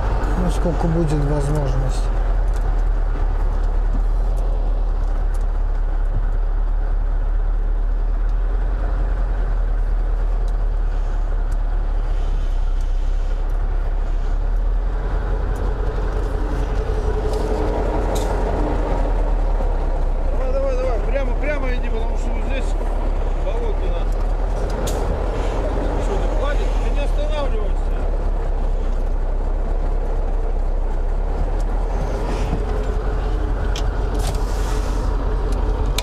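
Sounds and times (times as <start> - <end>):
diesel truck engine droning: 0.0 - 36.0.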